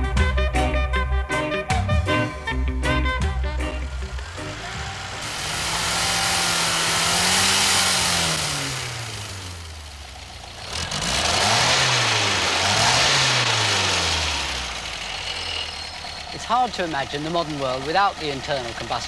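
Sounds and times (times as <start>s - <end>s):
engine revving: 2.5s - 19.0s.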